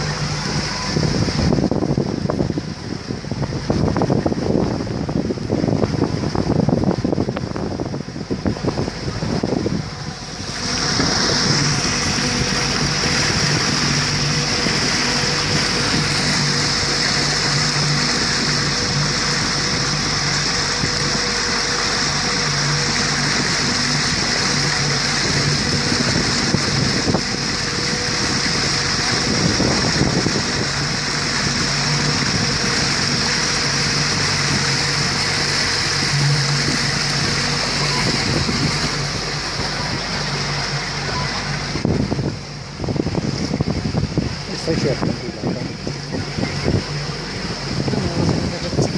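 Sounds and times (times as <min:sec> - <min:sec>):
outboard motor running: 0:00.0 - 0:48.9
water rushing past hull: 0:00.0 - 0:48.9
wind on microphone: 0:00.0 - 0:48.9.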